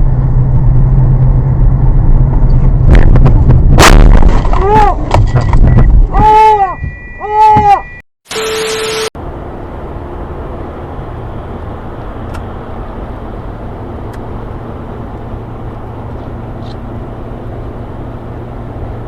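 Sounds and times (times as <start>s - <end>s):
vehicle engine hum with road noise: 0.0s - 7.8s, 9.1s - 19.0s.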